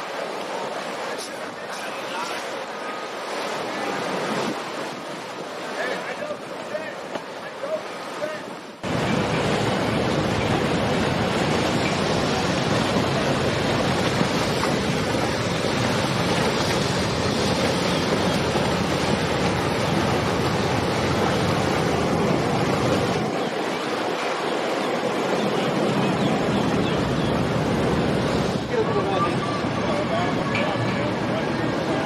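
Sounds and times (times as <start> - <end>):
churning water: 0.0 - 32.0
wind: 0.0 - 32.0.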